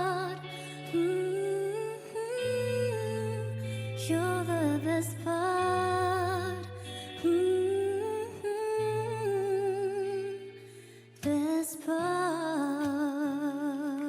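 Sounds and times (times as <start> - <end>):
woman singing a slow ballad: 0.0 - 14.0.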